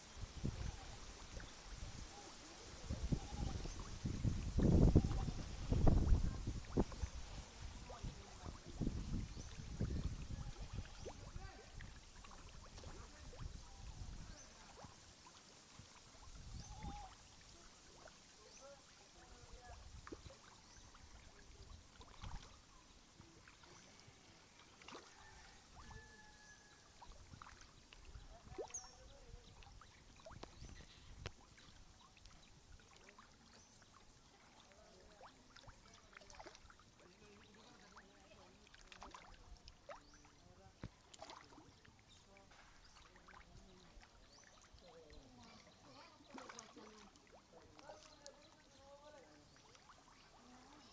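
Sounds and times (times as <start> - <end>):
water lapping with splashes: 0.0 - 50.9.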